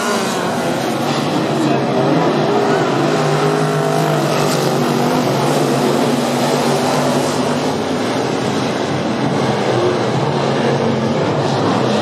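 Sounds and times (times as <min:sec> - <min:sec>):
stock car engines racing: 0:00.0 - 0:12.0.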